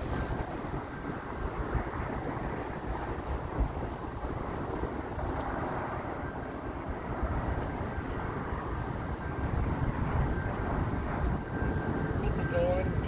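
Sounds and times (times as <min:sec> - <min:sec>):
distant train rumbling on bridge: 0:00.0 - 0:13.0
wind buffeting microphone: 0:00.0 - 0:13.0.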